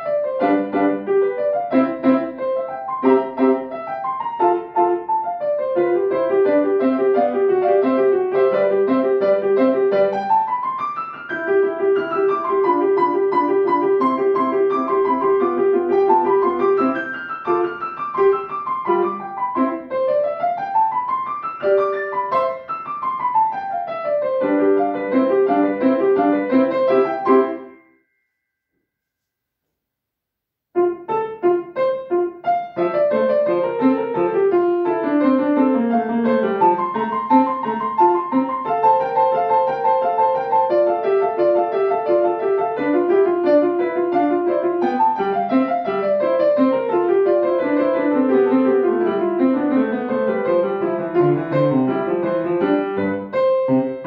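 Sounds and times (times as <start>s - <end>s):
grand piano playing: 0.0s - 27.9s, 30.8s - 54.0s.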